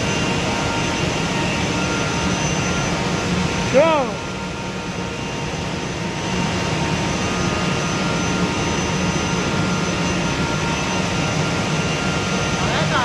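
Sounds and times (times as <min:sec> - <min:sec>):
faint steady whines: 0:00.0 - 0:13.0
woodworking machinery roar: 0:00.0 - 0:13.0.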